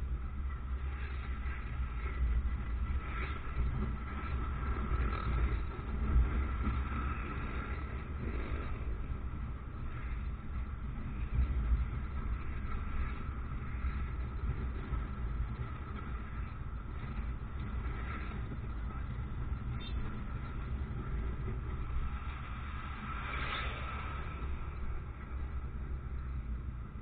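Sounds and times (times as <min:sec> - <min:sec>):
motorcycle engine and road rumble: 0:00.0 - 0:27.0.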